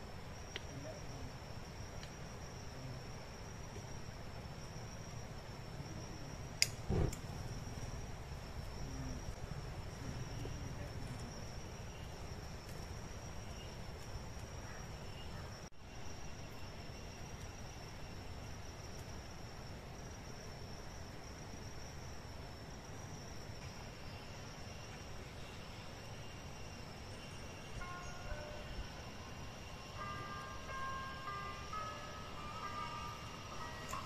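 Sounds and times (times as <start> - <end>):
insects droning: 0.0 - 34.0
low background hiss: 0.0 - 34.0.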